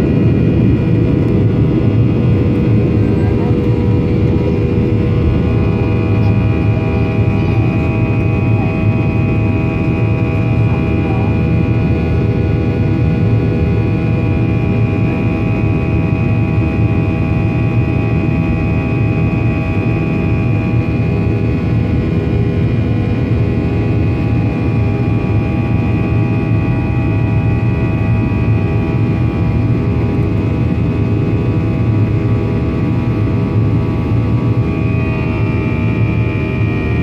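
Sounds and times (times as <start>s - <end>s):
jet engine noise in cabin: 0.0s - 37.0s.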